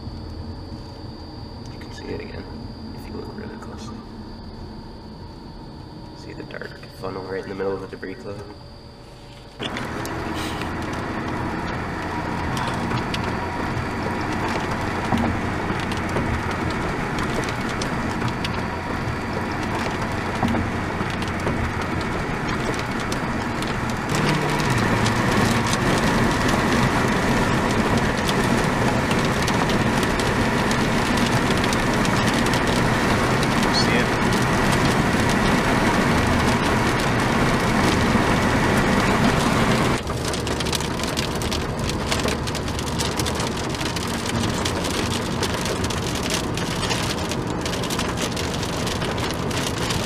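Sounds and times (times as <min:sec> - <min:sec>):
road and wind noise in car: 0:00.0 - 0:50.0.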